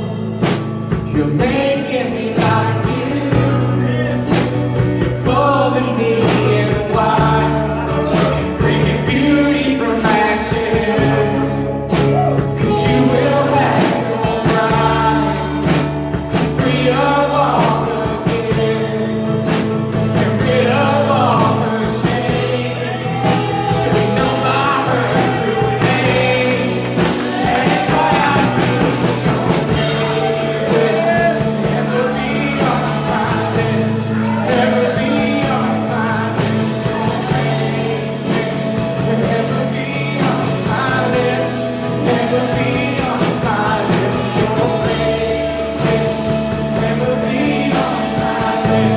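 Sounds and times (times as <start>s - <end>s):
people singing: 0.0s - 48.9s
worship band playing: 0.0s - 48.9s.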